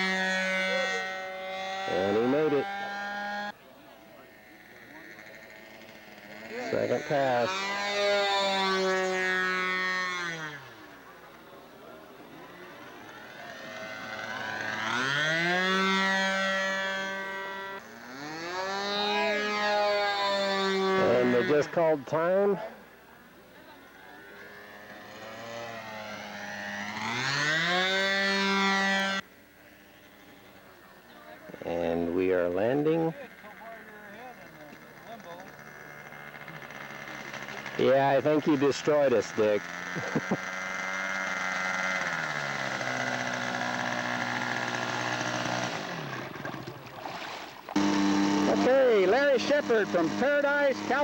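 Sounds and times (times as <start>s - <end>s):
model plane engine drone: 0.0s - 51.0s.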